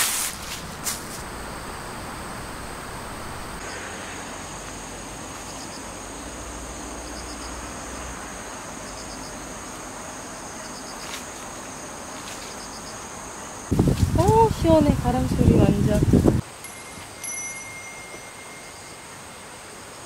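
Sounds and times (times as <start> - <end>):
background hiss: 0.0 - 20.0
crickets trilling: 0.0 - 20.0.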